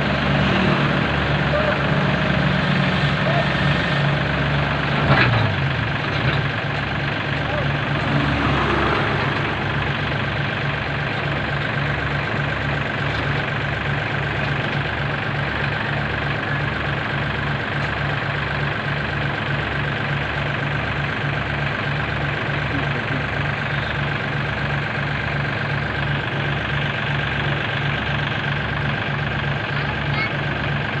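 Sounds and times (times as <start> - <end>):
diesel engine throbbing: 0.0 - 31.0.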